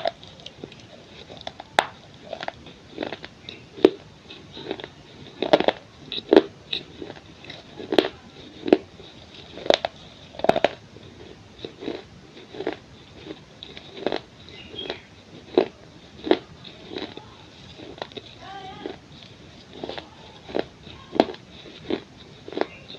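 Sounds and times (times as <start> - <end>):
crunching clay between teeth: 0.0 - 22.9.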